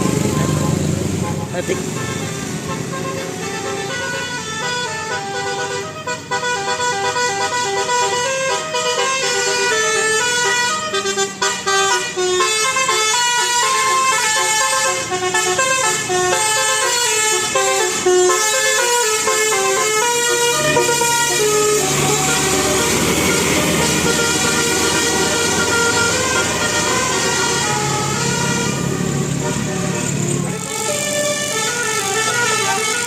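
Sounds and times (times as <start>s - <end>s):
bus horn playing a melody: 0.0s - 33.0s.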